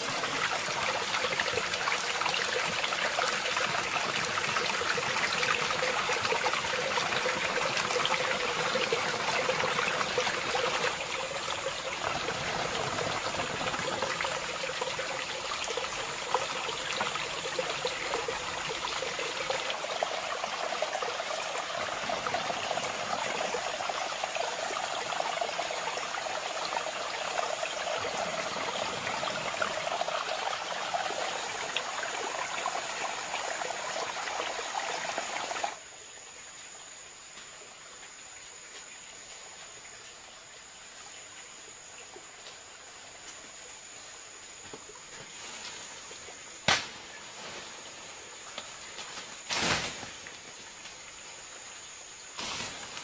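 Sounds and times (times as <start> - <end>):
stream trickling over stones: 0.0 - 53.0.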